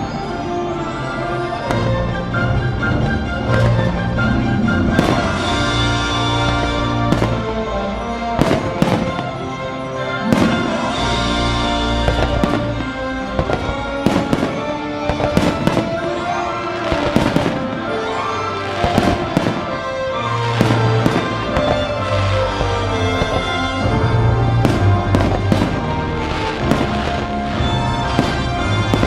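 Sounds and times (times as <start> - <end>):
orchestral music: 0.0 - 29.0
fireworks bangs: 1.6 - 29.0.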